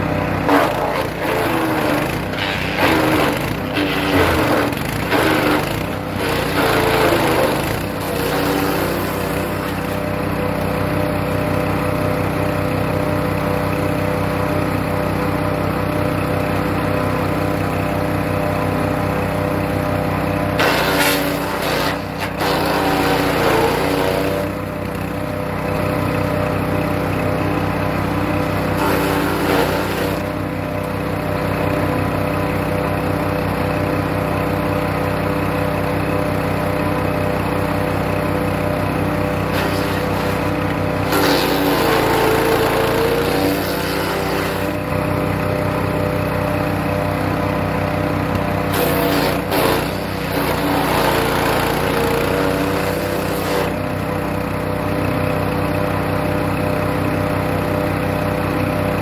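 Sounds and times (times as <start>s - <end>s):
branches grinding in chipper: 0.0s - 14.7s, 15.4s - 31.9s, 35.6s - 56.9s
wood chipper engine running: 0.0s - 59.0s.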